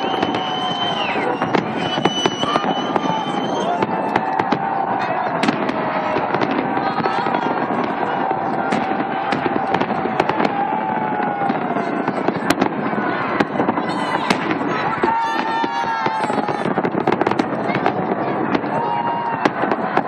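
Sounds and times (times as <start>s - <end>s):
crowd voices: 0.0s - 20.0s
fireworks bangs: 0.0s - 20.0s
fireworks crackling and popping: 0.0s - 20.0s.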